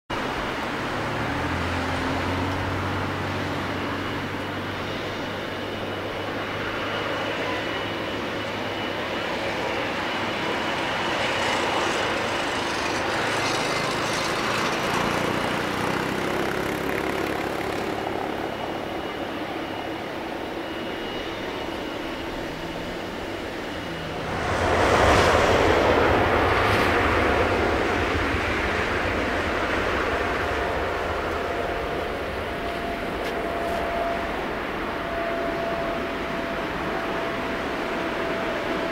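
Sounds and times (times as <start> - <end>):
jet engines taxiing: 0.1 - 38.9.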